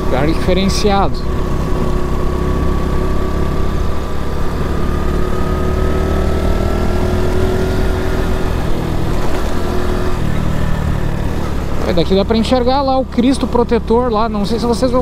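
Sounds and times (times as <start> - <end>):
small motorcycle engine cruising: 0.0 - 15.0
wind and road noise: 0.0 - 15.0.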